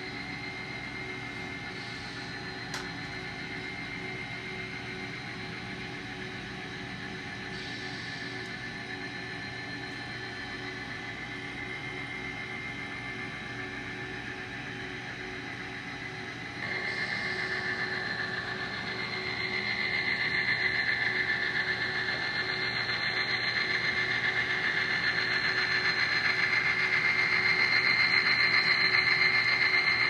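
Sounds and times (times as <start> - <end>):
model train whine: 0.0 - 30.0.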